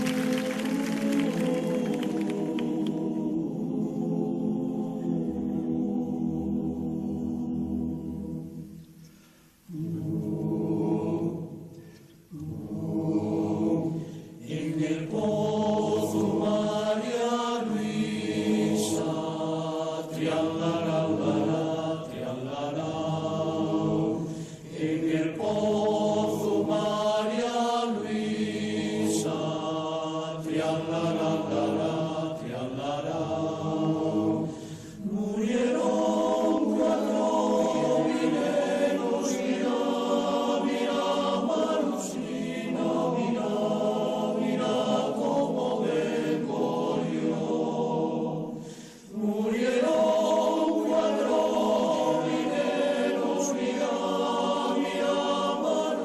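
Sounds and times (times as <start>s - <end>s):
choir singing held chords: 0.0s - 56.0s.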